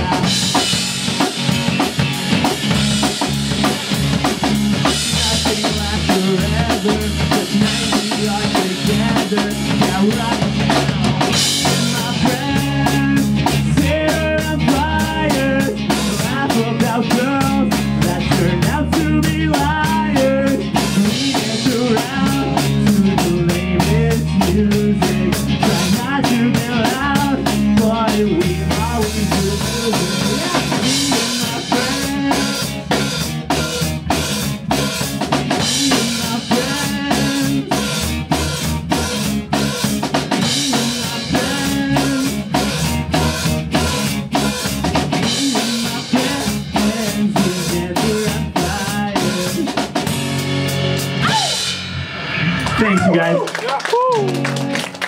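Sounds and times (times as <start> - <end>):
distorted guitars: 0.0 - 55.0
drum kit playing: 0.0 - 55.0
electric bass: 0.0 - 55.0.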